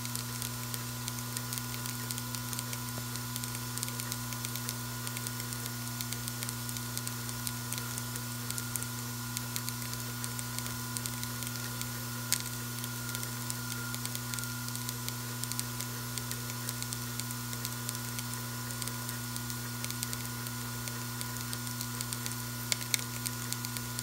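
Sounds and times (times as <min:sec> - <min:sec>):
vibratory feeder drive humming: 0:00.0 - 0:24.0.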